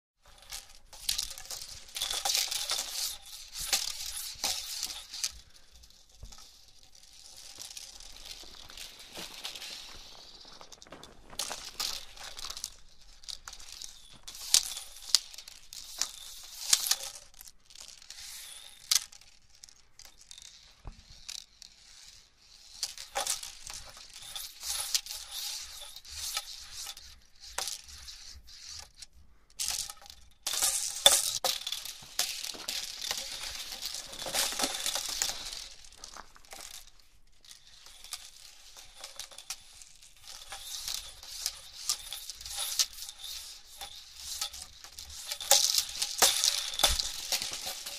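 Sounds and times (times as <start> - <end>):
plastic hula hoop swishing: 0.2 - 17.4, 20.8 - 47.9.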